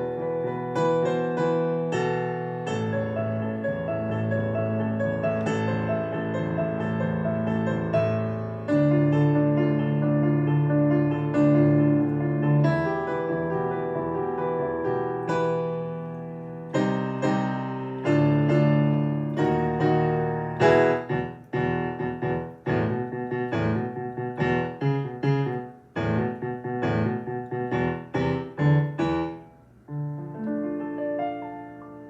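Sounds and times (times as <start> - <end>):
piano playing: 0.0 - 32.0.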